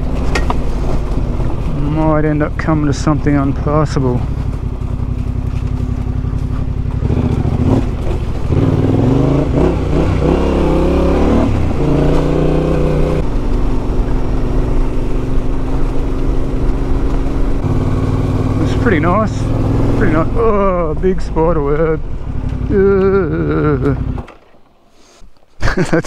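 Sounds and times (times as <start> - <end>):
motorcycle engine revving: 0.0 - 24.5.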